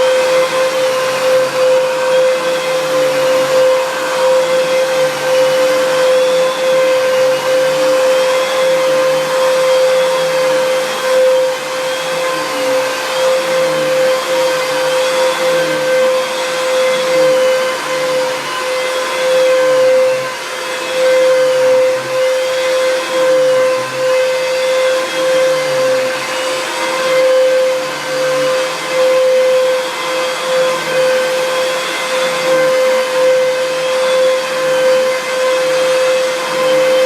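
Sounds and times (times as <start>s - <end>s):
vacuum cleaner motor whine: 0.0s - 37.0s.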